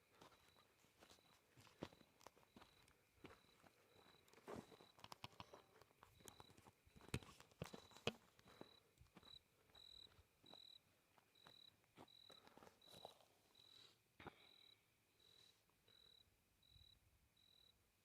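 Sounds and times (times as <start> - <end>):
faint high chirp: 0.3 - 17.8.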